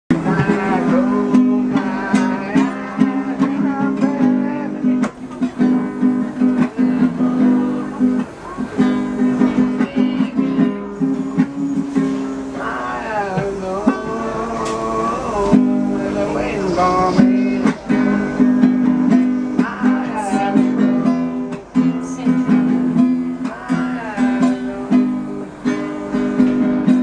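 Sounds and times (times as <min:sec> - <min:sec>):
classical guitar strumming chords: 0:00.1 - 0:27.0
man singing: 0:00.1 - 0:27.0.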